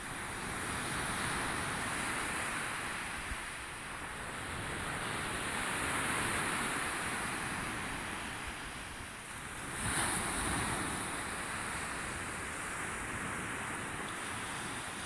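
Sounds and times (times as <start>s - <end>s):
sea waves washing in: 1.0s - 15.0s.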